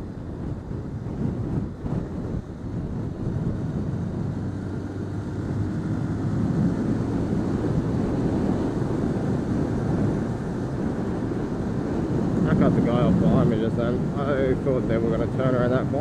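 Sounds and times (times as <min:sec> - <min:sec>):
motorcycle engine drone: 0:00.0 - 0:16.0
wind on microphone: 0:00.0 - 0:16.0.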